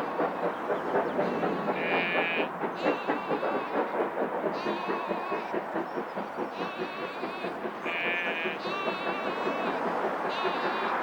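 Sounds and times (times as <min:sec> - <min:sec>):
train rattling along the line: 0:00.0 - 0:11.0.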